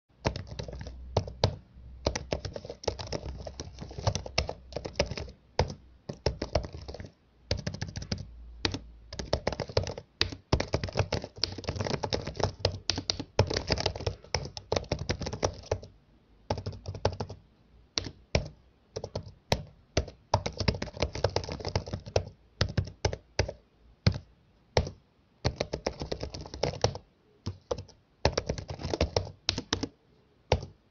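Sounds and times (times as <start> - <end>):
keyboard typing: 0.2 - 30.9.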